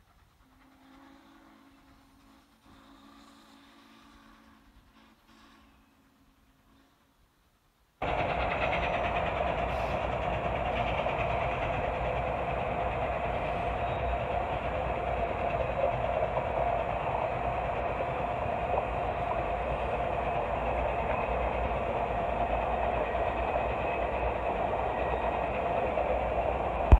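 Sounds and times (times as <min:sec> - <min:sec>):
train wheels rumbling on track: 0:00.0 - 0:07.3, 0:08.0 - 0:26.9.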